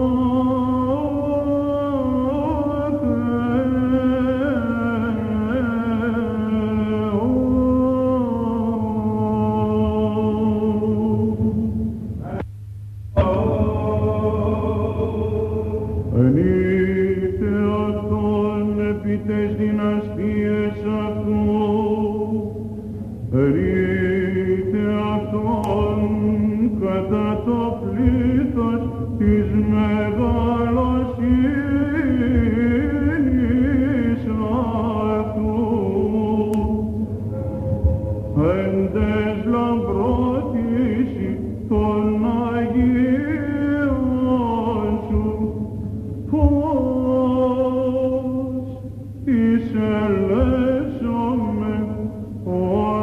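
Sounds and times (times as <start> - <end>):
man chanting ornamented melody: 0.0 - 12.4, 13.2 - 53.0
held vocal drone: 0.0 - 12.5, 13.1 - 53.0.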